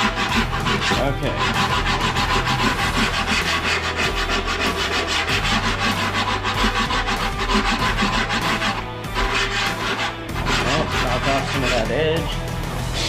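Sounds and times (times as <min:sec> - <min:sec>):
rasping on foam: 0:00.0 - 0:12.4.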